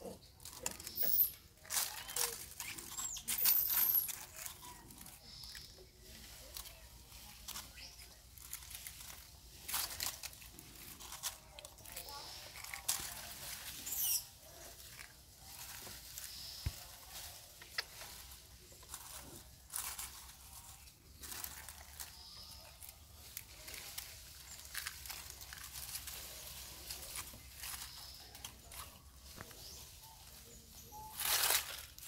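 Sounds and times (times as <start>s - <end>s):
dry leaves rustling: 0.0s - 32.0s.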